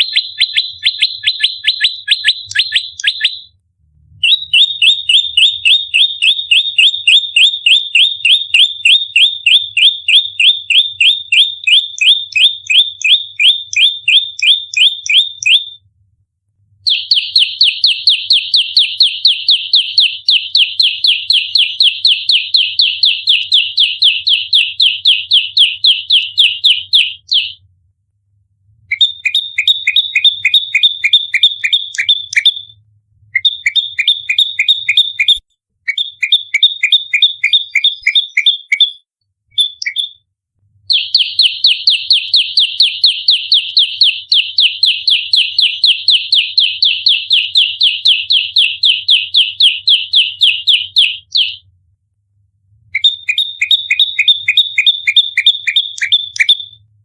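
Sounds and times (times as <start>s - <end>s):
songbird rapid high chirps: 0.0s - 3.5s, 4.2s - 15.8s, 16.9s - 27.6s, 28.9s - 32.7s, 33.4s - 40.2s, 40.9s - 51.6s, 53.0s - 56.8s.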